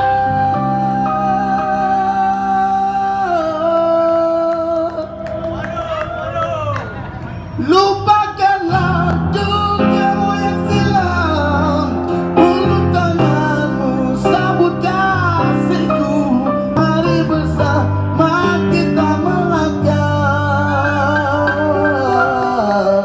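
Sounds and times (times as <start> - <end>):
street band playing: 0.0 - 23.0.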